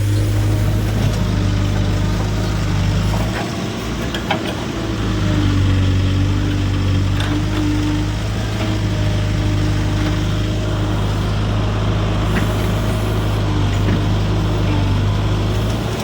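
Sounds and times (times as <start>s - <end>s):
farm engine humming: 0.0s - 16.0s.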